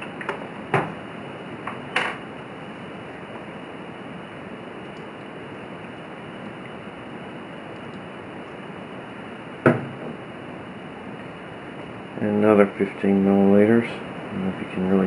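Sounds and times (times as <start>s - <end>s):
room tone hiss: 0.0s - 15.0s.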